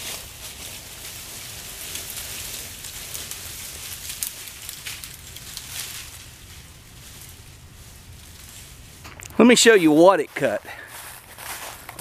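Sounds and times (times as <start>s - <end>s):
dry leaves rustling and crackling: 0.0s - 12.0s
steady low rumble: 0.0s - 12.0s.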